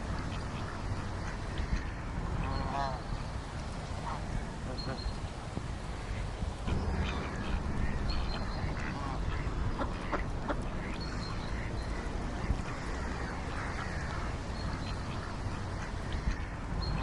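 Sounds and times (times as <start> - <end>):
ducks quacking: 0.0 - 3.1, 4.0 - 5.1, 6.0 - 17.0
steady low rumble: 0.0 - 17.0.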